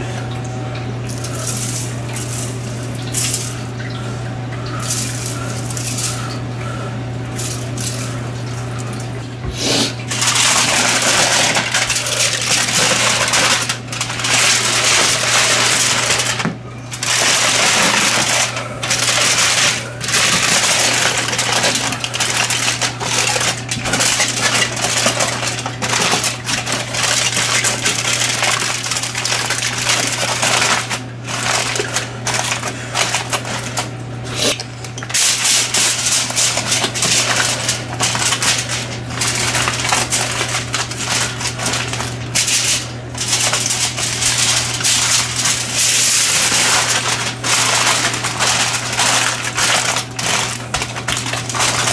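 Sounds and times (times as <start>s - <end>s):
steady low hum: 0.0s - 51.9s
aluminum foil crinkling: 1.1s - 3.9s, 4.6s - 6.6s, 7.2s - 9.2s, 10.0s - 51.9s.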